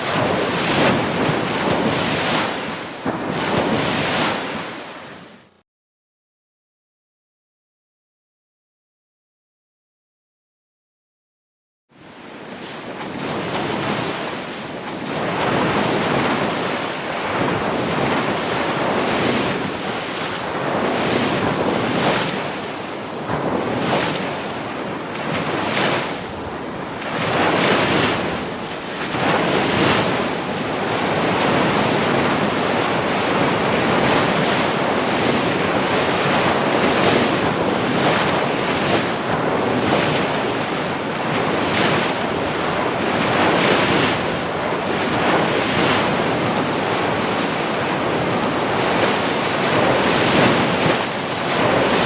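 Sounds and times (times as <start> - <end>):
ocean surf breaking: 0.0 - 5.5, 12.0 - 52.0.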